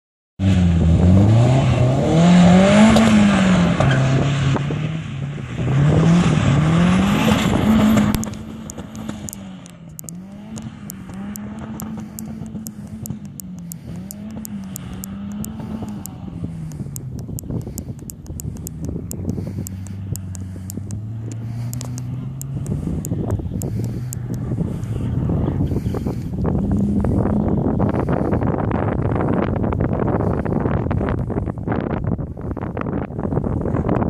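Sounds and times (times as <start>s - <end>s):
car engine revving: 0.4s - 31.8s.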